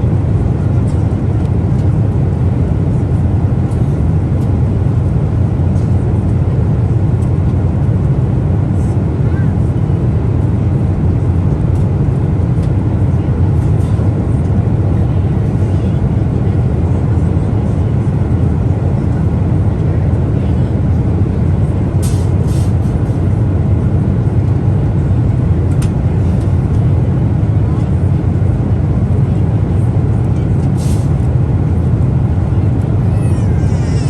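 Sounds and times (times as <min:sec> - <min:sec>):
airplane cabin engine rush: 0:00.0 - 0:34.0.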